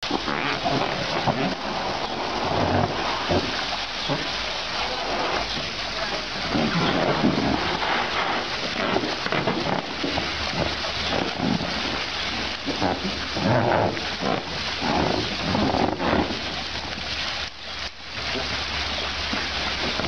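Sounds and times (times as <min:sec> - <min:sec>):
water splashing in paddling pool: 0:00.0 - 0:20.0
garden hose spraying: 0:00.1 - 0:20.0.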